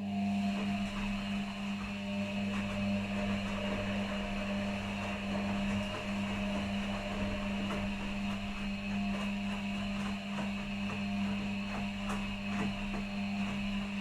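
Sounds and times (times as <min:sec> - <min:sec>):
washing machines humming: 0:00.0 - 0:14.0.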